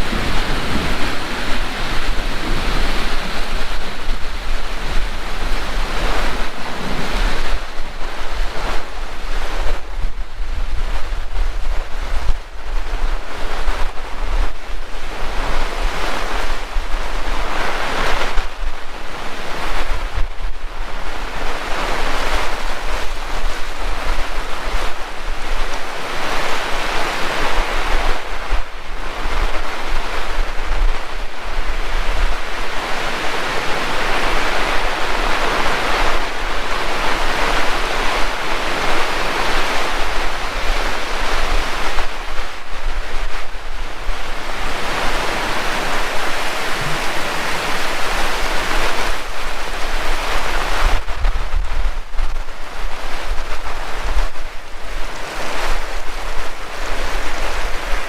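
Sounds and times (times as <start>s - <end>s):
heavy rain pouring: 0.0s - 58.0s
wind rumble on microphone: 0.0s - 58.0s.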